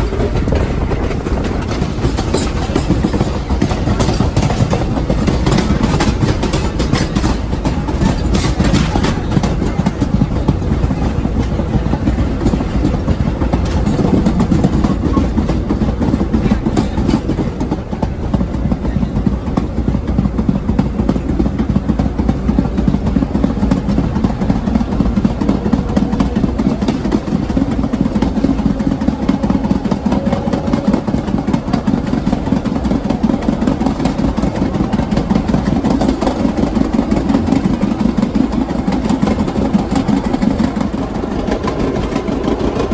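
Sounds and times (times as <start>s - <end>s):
subway wheels rumbling on rail: 0.0s - 42.9s.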